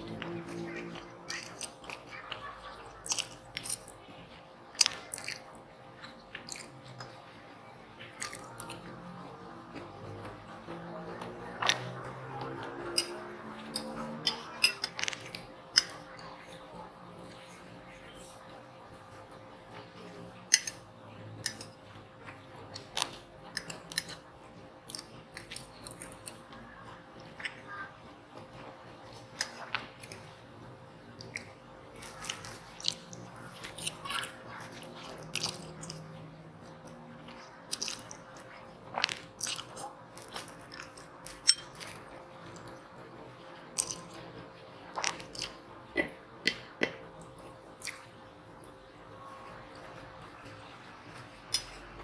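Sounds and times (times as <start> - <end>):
person chewing with wet mouth noises: 0.0 - 52.0.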